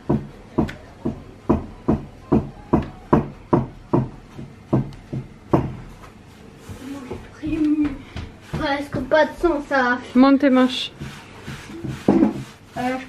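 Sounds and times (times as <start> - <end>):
hand patting dough on wood: 0.0 - 9.5, 10.9 - 12.7.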